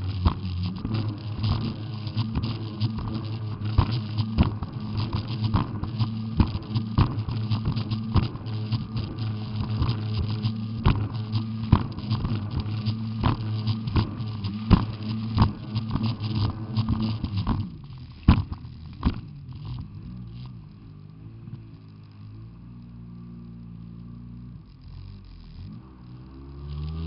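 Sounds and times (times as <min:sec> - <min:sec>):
jet ski engine running: 0:00.0 - 0:22.5.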